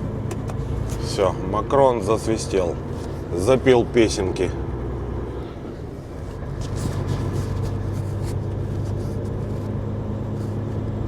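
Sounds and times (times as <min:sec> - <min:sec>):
road noise: 0:00.0 - 0:11.0
truck engine drone: 0:00.0 - 0:11.0
hissing wind against cab: 0:00.2 - 0:10.9.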